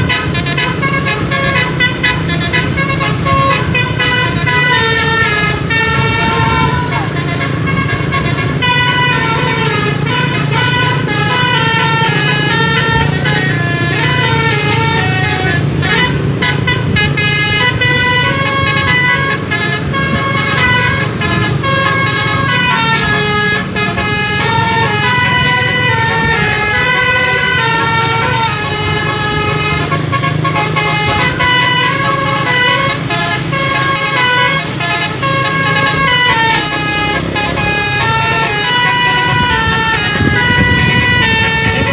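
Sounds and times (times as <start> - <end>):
bus engine humming: 0.0 - 41.9
musical air horn melody: 0.0 - 41.9.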